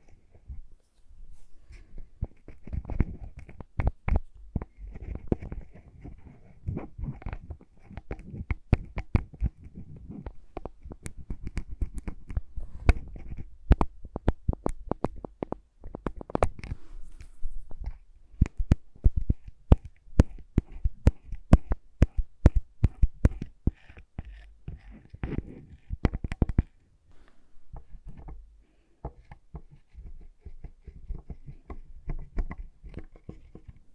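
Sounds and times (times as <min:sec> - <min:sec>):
soft rubbing and handling: 0:00.0 - 0:33.9
small clicks and taps: 0:01.7 - 0:28.4, 0:29.0 - 0:33.9.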